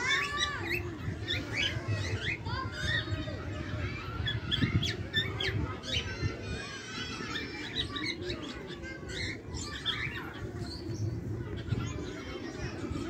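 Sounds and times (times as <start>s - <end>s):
cockatiels chirping and squawking: 0.0s - 3.2s, 4.0s - 12.8s.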